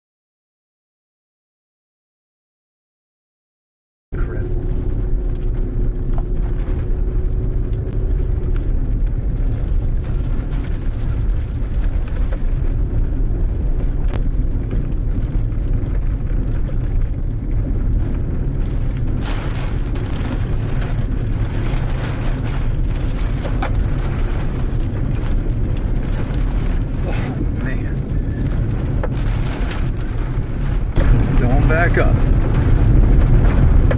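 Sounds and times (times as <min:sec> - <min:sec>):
wind buffeting microphone: 0:04.3 - 0:33.9.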